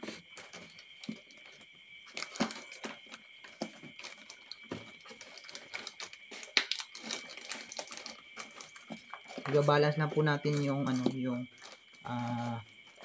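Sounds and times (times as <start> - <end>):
plastic bag crinkling: 0.4 - 9.6, 10.3 - 13.0.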